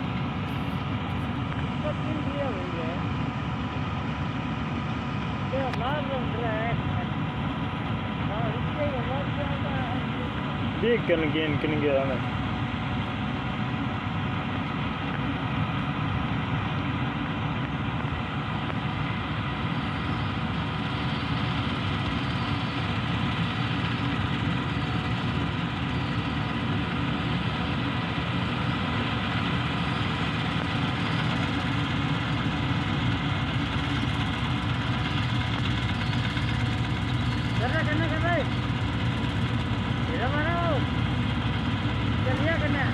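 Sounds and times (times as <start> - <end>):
diesel engine drone: 0.0 - 42.9.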